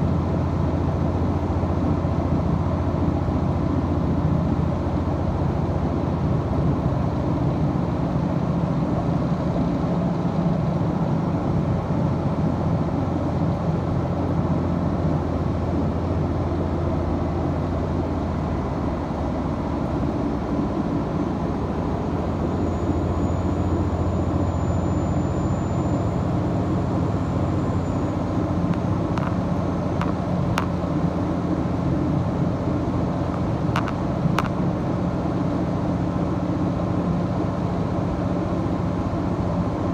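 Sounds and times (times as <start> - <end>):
diesel train engine drone: 0.0 - 39.9.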